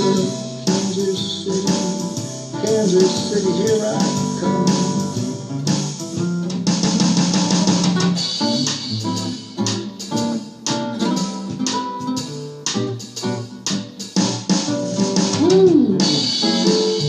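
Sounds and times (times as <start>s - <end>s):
bass: 0.0s - 17.0s
drum beat: 0.0s - 17.0s
plucked blues guitar: 0.0s - 17.0s.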